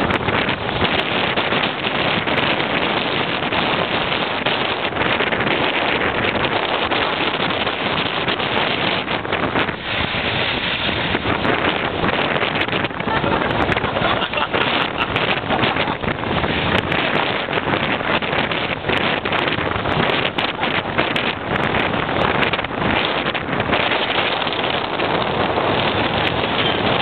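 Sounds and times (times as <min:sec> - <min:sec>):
water rushing along hull: 0:00.0 - 0:27.0
wind buffeting microphone: 0:00.0 - 0:27.0.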